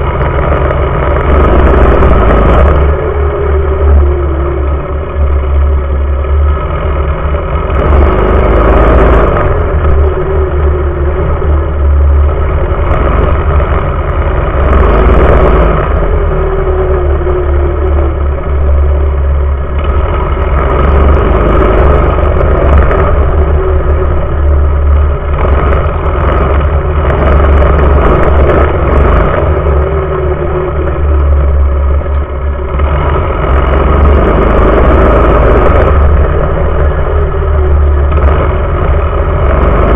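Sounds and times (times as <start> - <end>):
small engine running hard: 0.0 - 39.9
wind rumble on microphone: 0.0 - 39.9.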